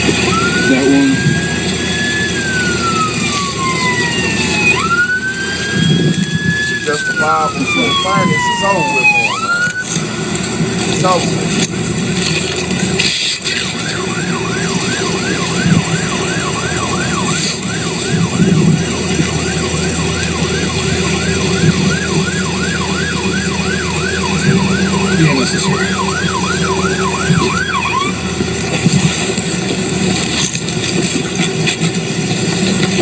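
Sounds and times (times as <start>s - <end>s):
siren yelping: 0.0s - 33.0s.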